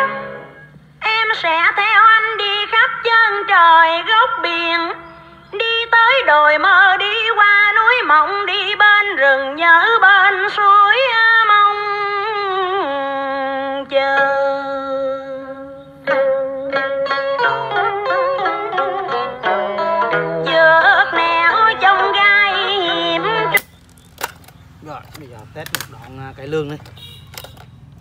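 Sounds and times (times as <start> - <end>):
person singing with vibrato: 0.0 - 23.6.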